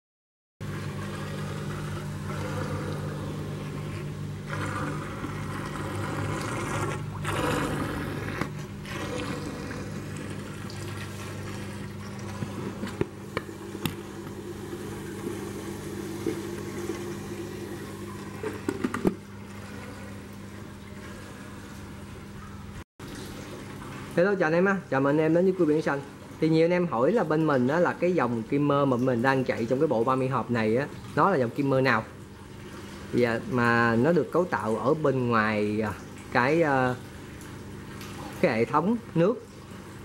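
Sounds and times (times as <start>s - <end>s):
pump hum: 0.6s - 40.0s.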